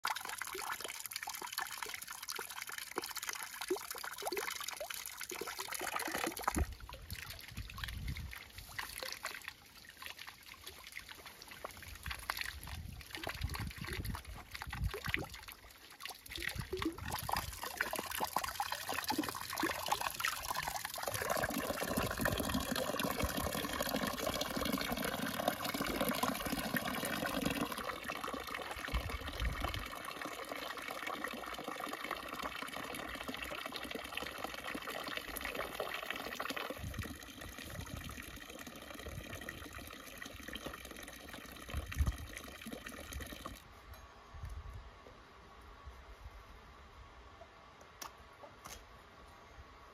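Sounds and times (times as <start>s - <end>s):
water pouring from jug: 0.0s - 43.7s.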